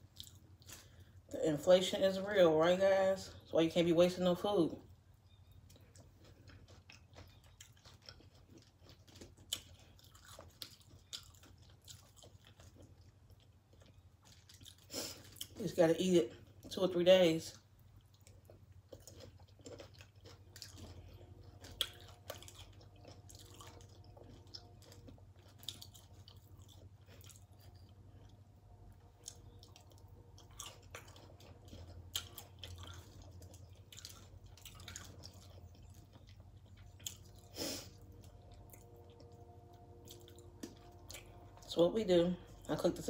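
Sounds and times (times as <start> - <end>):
chewing crunchy chips: 0.0 - 43.0
faint low hum: 0.0 - 43.0.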